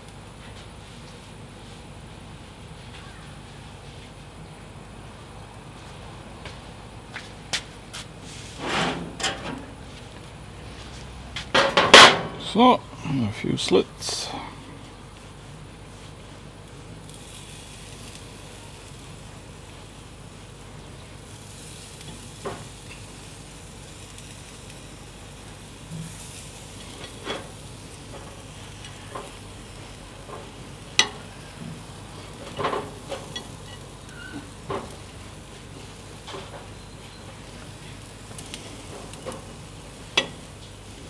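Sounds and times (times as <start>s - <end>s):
sausages sizzling on grill: 0.0s - 41.0s.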